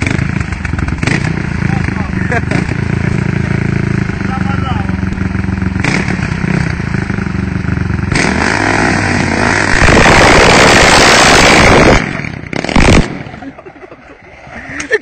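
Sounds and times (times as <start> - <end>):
wheels spinning on wet pavement: 0.0 - 12.6
quad bike engine revving: 0.0 - 13.5.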